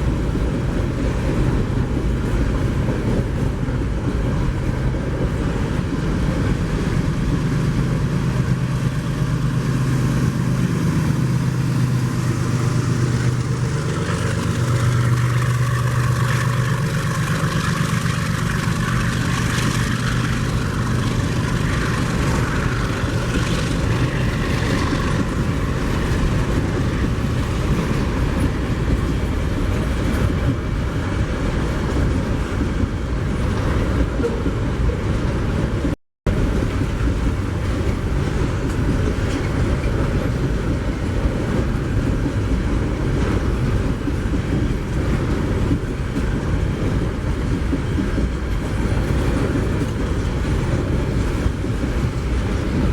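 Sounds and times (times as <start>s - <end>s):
diesel locomotive engine hum: 0.0s - 52.9s
rail wagons rumbling: 0.0s - 52.9s.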